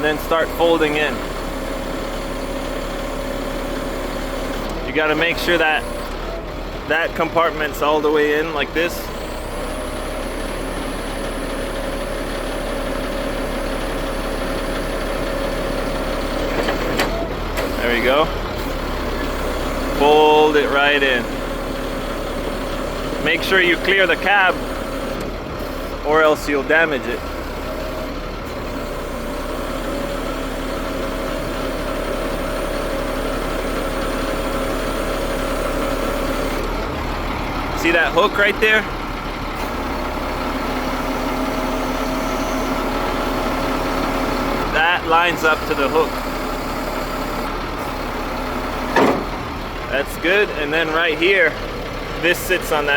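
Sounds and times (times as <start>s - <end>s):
diesel engine running: 0.0s - 52.9s
steady hydraulic whine: 7.6s - 52.9s.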